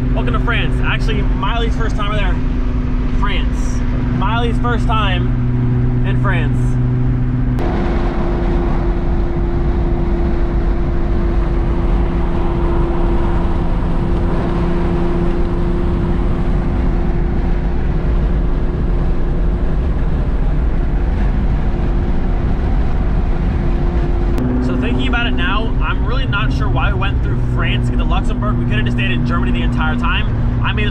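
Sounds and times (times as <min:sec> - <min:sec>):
car engine at constant revs: 0:00.0 - 0:30.9
wind noise: 0:00.0 - 0:30.9.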